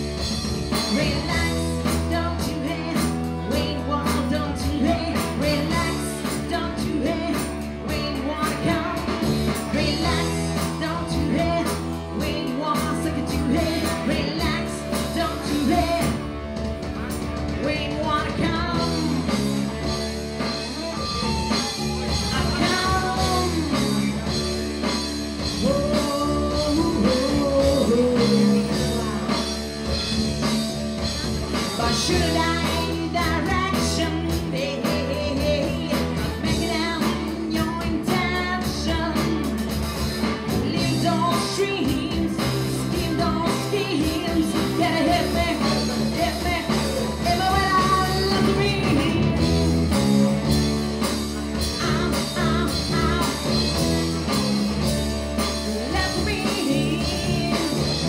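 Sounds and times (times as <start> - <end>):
bass guitar: 0.0 - 58.0
drums: 0.0 - 58.0
electric guitar: 0.0 - 58.0
woman singing: 0.2 - 16.4, 17.4 - 20.0, 20.8 - 54.8, 55.4 - 58.0.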